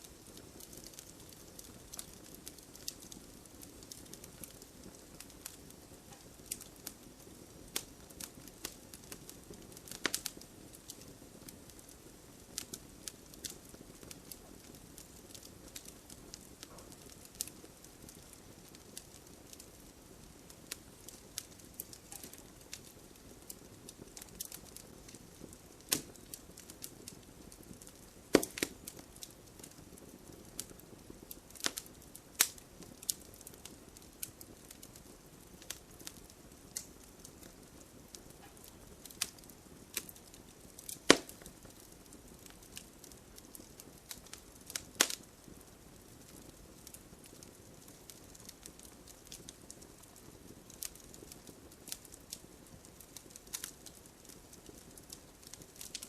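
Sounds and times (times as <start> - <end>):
fire crackling and popping: 0.0 - 56.0
hiss of flames: 0.0 - 56.0.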